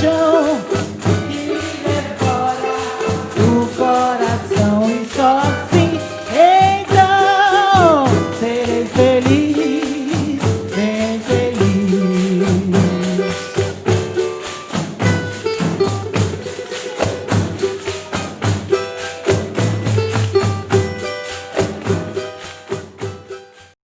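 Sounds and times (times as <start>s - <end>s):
frame drums beating rhythm: 0.0s - 23.7s.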